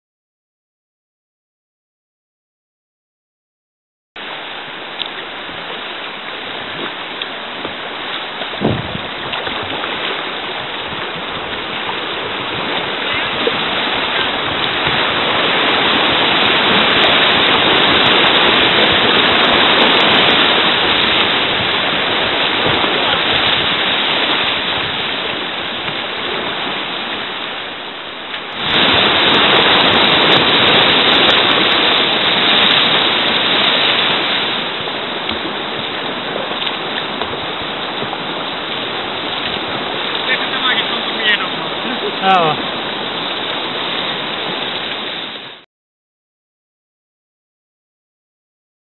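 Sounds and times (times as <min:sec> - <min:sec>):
river rapids rushing: 0:04.2 - 0:45.6.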